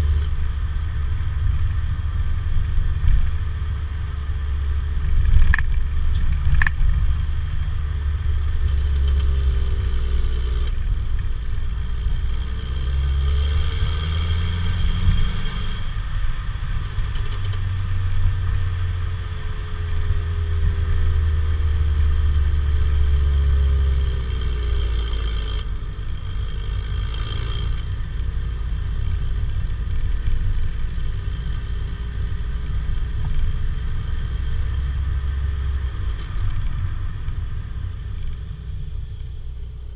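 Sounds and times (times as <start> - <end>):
car exhaust rumble: 0.0 - 39.9.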